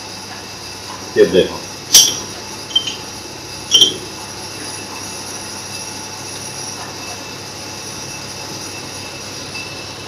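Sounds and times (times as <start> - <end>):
mechanical hum with hiss: 0.0 - 10.0.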